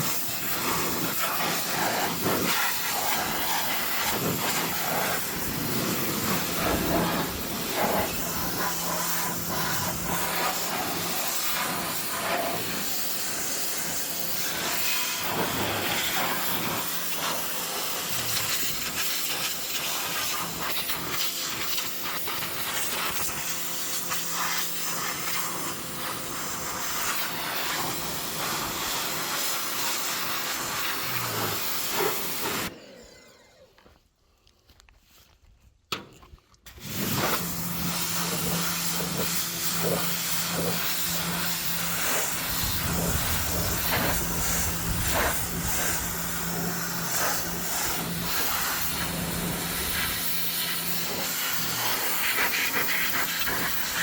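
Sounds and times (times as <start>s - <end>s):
water jet spraying: 0.0s - 32.7s, 36.7s - 54.0s.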